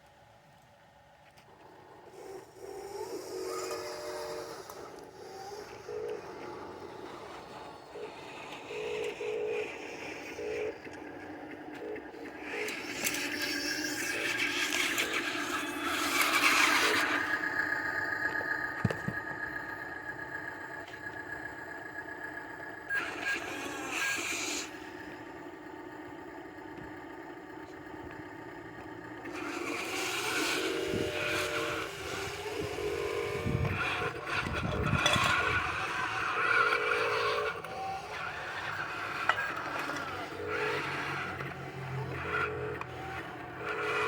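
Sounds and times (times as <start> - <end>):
diesel engine droning: 0.8 - 44.0.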